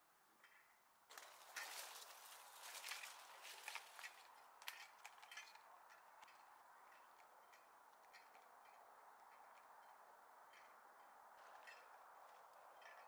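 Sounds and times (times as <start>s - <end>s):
faint footsteps on forest trail: 1.1s - 13.0s.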